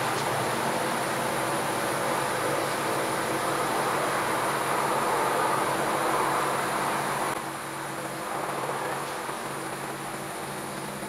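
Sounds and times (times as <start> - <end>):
spirit burner flame hissing: 0.0 - 11.0.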